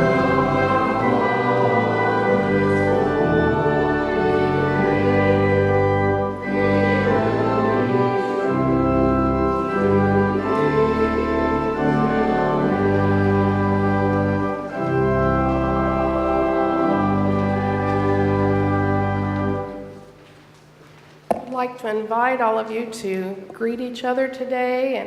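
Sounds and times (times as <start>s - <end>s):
church organ chords: 0.0s - 20.3s.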